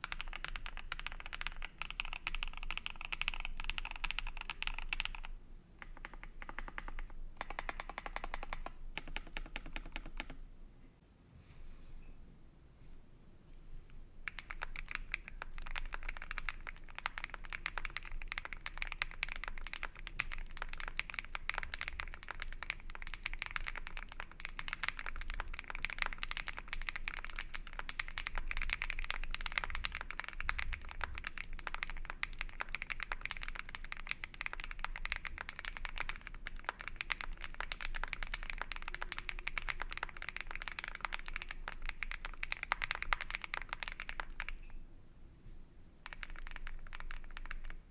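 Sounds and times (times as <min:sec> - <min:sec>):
mechanical keyboard typing: 0:00.0 - 0:10.4, 0:14.2 - 0:44.7, 0:46.0 - 0:47.9.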